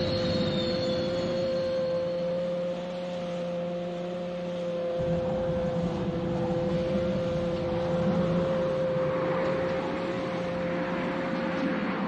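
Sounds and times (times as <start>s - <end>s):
low mechanical rumble: 0.0s - 12.0s
steady electric hum: 0.0s - 12.0s.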